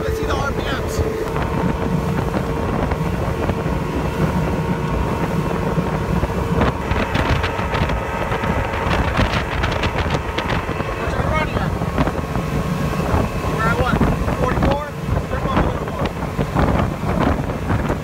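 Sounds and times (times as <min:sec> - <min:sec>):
outboard motor rumble: 0:00.0 - 0:18.0
water rushing past hull: 0:00.0 - 0:18.0
wind buffeting microphone: 0:00.0 - 0:18.0.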